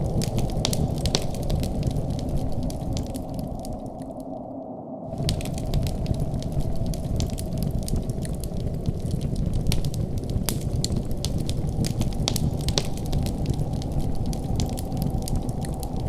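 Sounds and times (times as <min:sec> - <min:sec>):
wood fire crackling and popping: 0:00.0 - 0:04.2, 0:05.1 - 0:16.0
low fire rumble: 0:00.0 - 0:04.4, 0:05.1 - 0:16.0.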